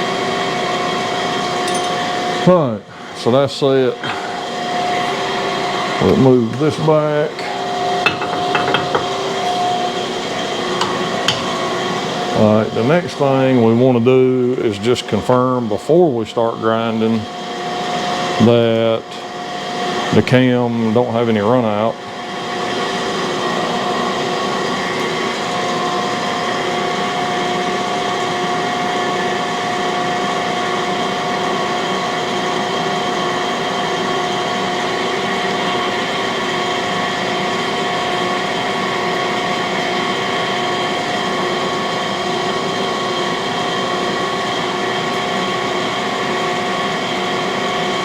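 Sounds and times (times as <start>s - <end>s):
grinding machine motor whine: 0.0s - 48.0s.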